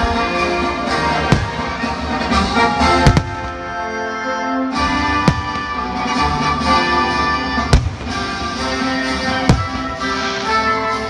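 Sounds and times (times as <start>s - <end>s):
orchestral music with strings: 0.0s - 11.0s
firework bangs: 0.8s - 3.9s, 4.8s - 10.9s.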